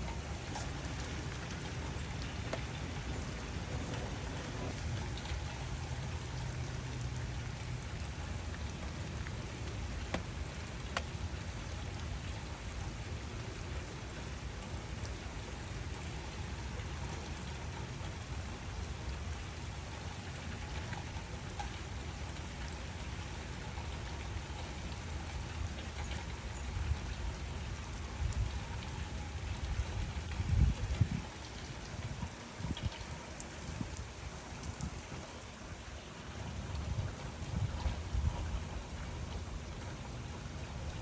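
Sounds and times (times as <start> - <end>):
raindrop ticks: 0.0 - 35.8
steady rain falling: 0.0 - 41.0.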